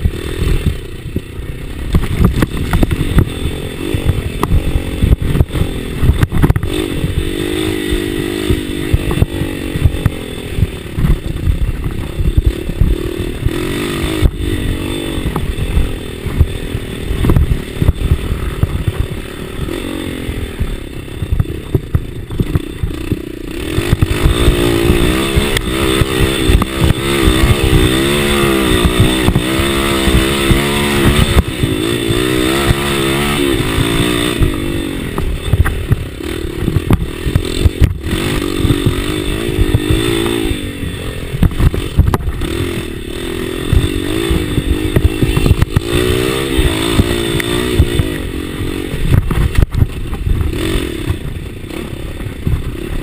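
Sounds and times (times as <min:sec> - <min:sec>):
dirt bike engine revving: 0:00.0 - 0:53.0
knocks and buffeting from riding: 0:00.0 - 0:53.0.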